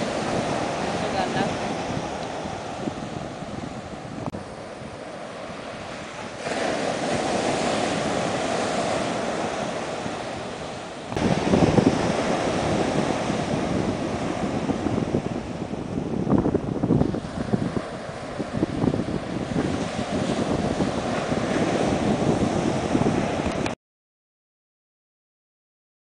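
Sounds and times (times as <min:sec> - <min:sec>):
surf breaking on a beach: 0:00.0 - 0:23.8
wind buffeting the microphone: 0:00.0 - 0:23.8.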